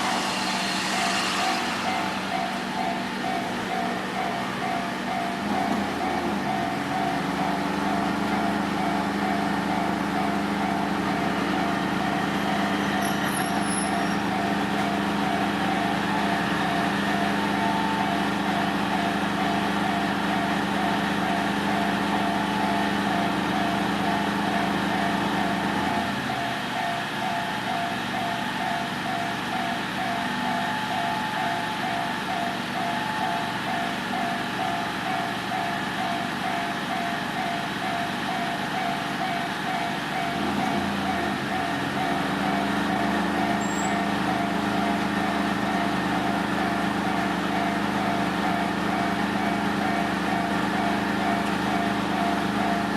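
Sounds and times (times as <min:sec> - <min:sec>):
level-crossing warning bell: 0:00.0 - 0:52.9.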